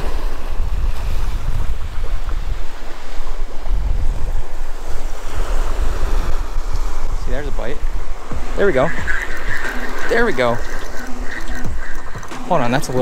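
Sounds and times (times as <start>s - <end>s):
surf waves washing on sand: 0.0s - 13.0s
wind buffeting microphone: 0.0s - 13.0s.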